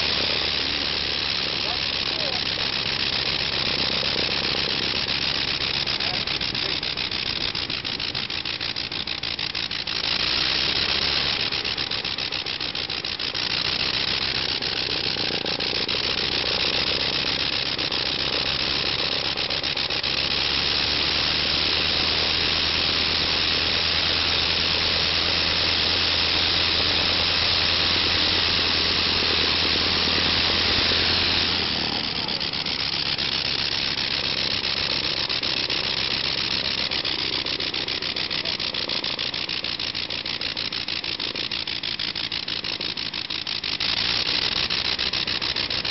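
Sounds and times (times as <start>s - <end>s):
rotary aircraft engine running: 0.0s - 45.9s.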